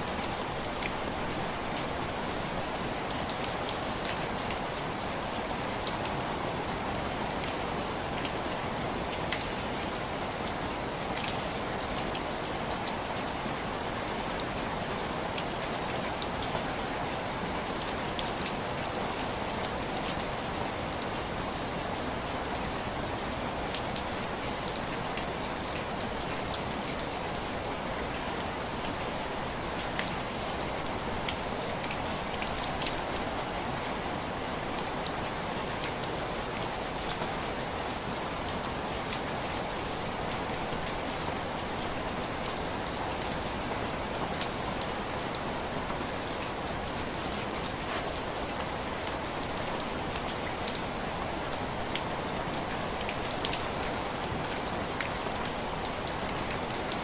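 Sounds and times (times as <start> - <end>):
rain on window glass: 0.0 - 57.0.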